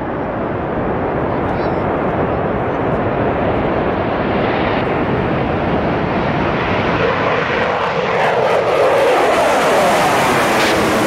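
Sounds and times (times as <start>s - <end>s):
jet engines at takeoff thrust: 0.0s - 11.0s.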